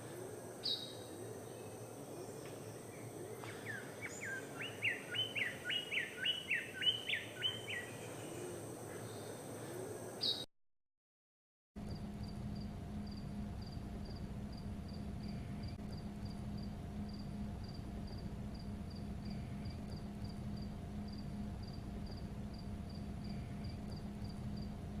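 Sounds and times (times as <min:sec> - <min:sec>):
cricket chirping: 0:00.0 - 0:10.4, 0:11.8 - 0:25.0
constant low hum: 0:00.0 - 0:10.5, 0:11.8 - 0:25.0.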